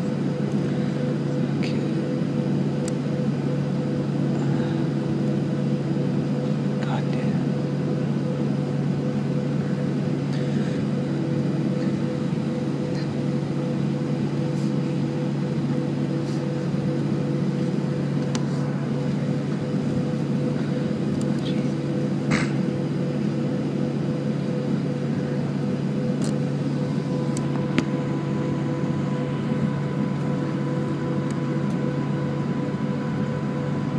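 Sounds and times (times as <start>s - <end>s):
aircraft cabin droning hum: 0.0s - 33.9s.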